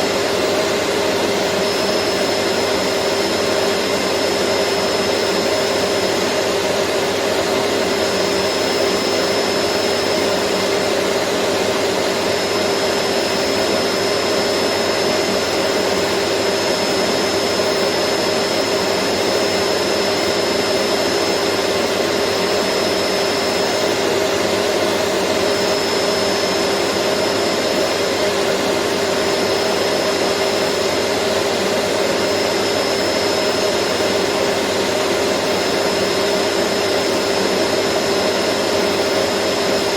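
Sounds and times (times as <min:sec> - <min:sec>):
faint high whine: 0:00.0 - 0:39.9
vacuum cleaner running: 0:00.0 - 0:39.9.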